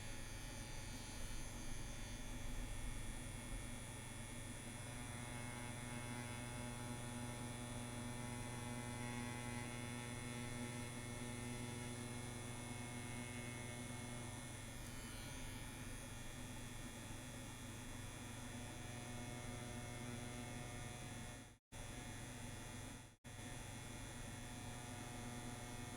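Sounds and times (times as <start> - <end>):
tattoo machine humming: 0.0 - 21.3, 23.6 - 25.9.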